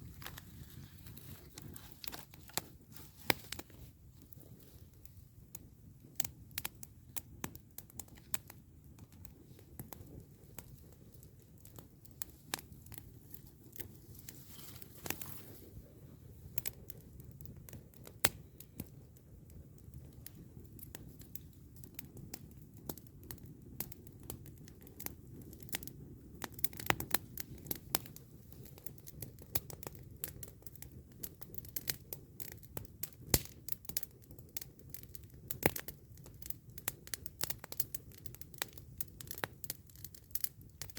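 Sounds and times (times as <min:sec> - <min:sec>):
campfire crackling and popping: 0:00.0 - 0:40.9
low fire rumble: 0:00.0 - 0:40.9.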